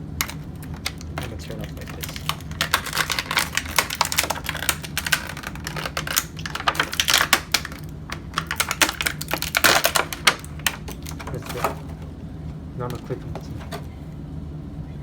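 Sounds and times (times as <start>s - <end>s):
plastic toy and packaging handled: 0.2s - 14.0s.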